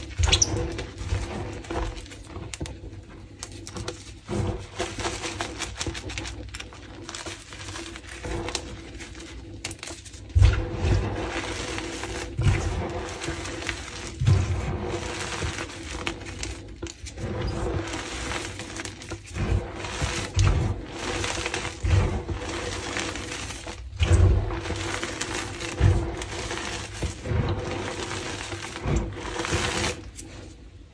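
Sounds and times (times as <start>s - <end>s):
hands crunching chalk: 3.4s - 30.4s.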